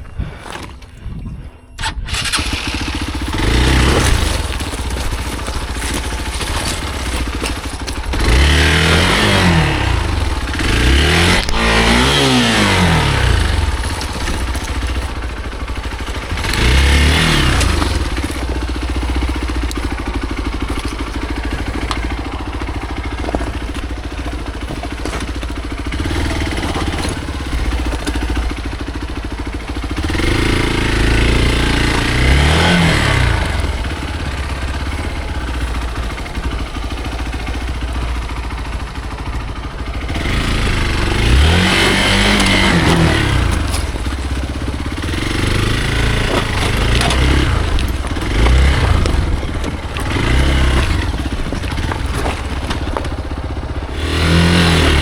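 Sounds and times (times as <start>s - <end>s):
motorcycle engine revving: 1.8s - 55.0s.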